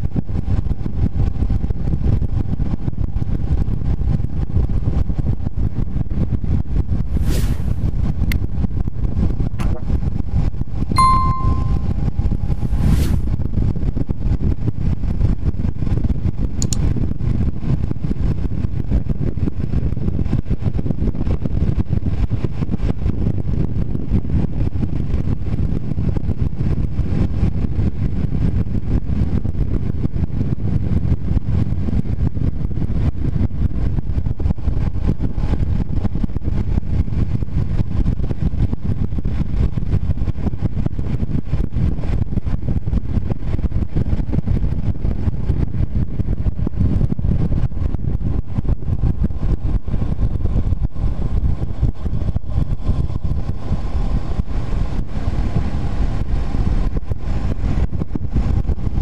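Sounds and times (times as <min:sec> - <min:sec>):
motorcycle engine and road rumble: 0:00.0 - 0:59.0
wind rush on microphone: 0:00.0 - 0:59.0.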